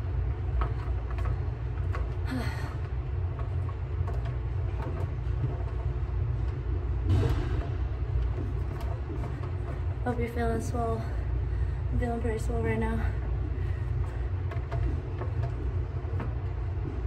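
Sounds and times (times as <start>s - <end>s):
ventilation rumble: 0.0s - 17.0s.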